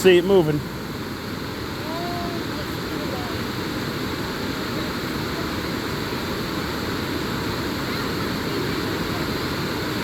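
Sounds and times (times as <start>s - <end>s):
water pouring over a dam spillway: 0.0s - 10.0s.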